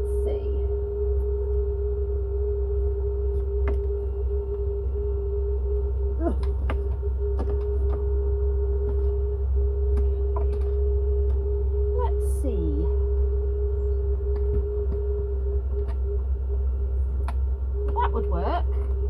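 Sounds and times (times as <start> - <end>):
small motor humming and whining: 0.0 - 19.0.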